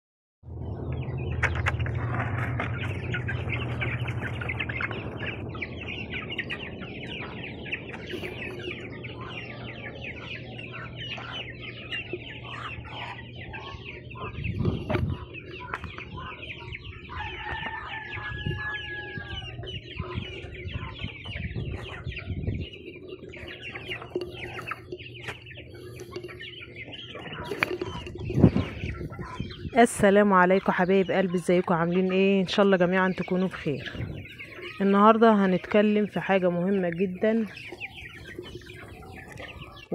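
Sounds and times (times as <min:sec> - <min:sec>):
chickens clucking: 0:00.5 - 0:39.9.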